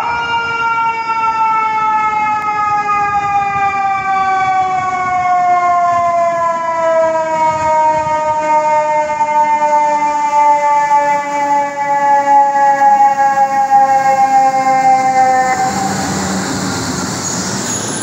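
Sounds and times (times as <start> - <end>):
fire engine siren winding down: 0.0 - 18.0.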